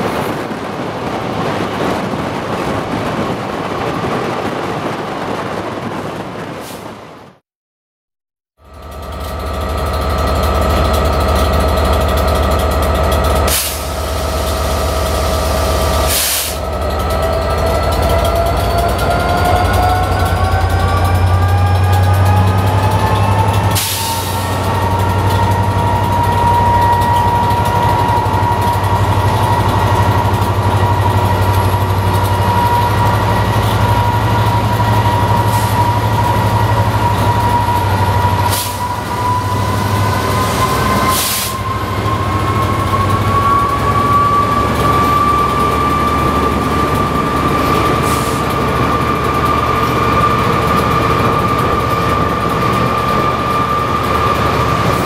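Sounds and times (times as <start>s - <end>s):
diesel locomotive rumbling: 0.0s - 7.4s, 8.6s - 55.0s
rising locomotive whine: 8.6s - 55.0s.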